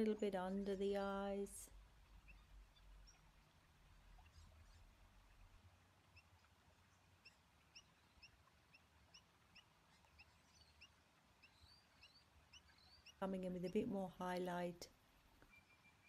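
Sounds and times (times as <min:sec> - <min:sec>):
small bird chirping faintly: 0:00.0 - 0:16.0.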